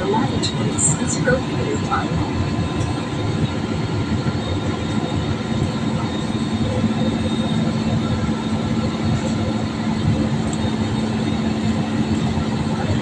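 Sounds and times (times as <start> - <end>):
jet engine and airflow roar: 0.0 - 13.0
steady low hum: 0.0 - 13.0.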